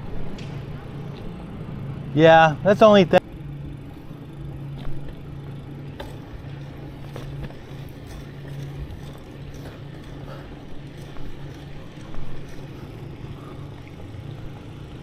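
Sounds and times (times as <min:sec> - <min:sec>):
bicycle rolling hum: 0:00.0 - 0:15.0.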